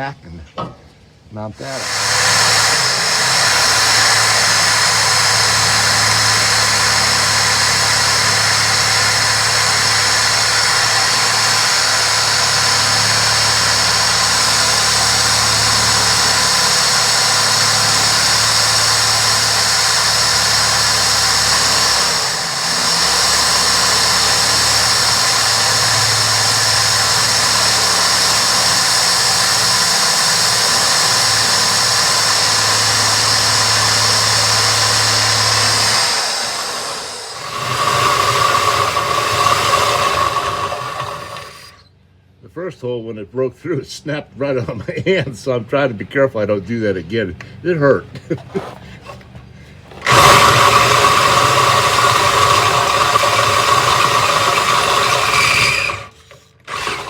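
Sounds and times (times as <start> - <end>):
power drill whining and grinding: 1.6 - 42.0, 48.6 - 57.0.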